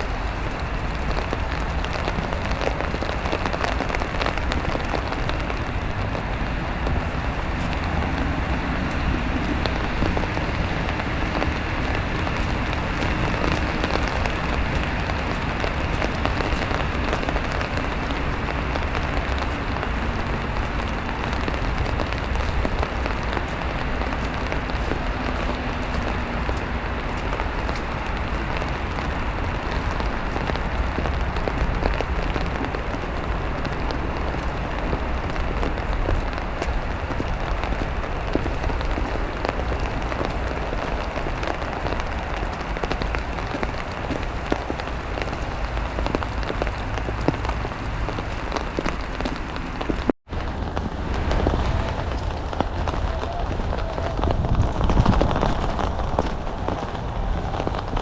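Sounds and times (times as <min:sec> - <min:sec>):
rain and wet snow falling: 0:00.0 - 0:58.0.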